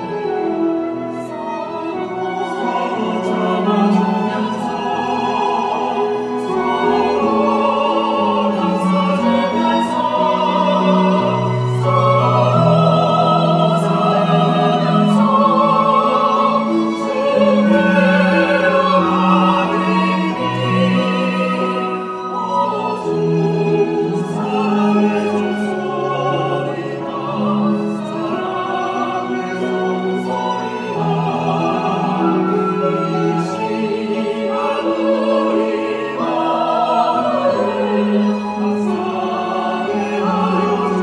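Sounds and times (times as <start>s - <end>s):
string ensemble playing: 0.0s - 41.0s
vocal ensemble singing a hymn: 0.0s - 41.0s.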